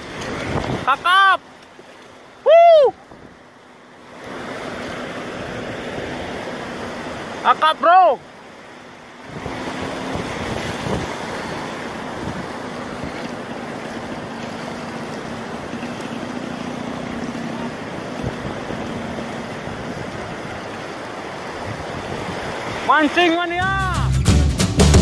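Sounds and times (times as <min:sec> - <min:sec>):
surf washing over sand: 0:00.0 - 0:24.2.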